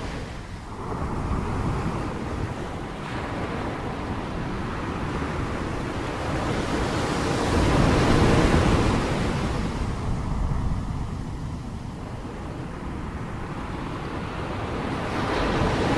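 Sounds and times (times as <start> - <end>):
sea waves crashing: 0.0 - 15.9
wind on microphone: 0.0 - 15.9.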